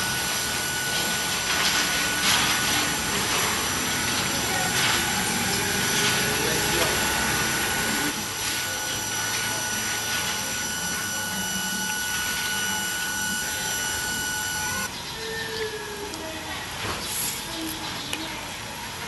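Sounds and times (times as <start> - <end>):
mechanical whir with whining tones: 0.0 - 15.6.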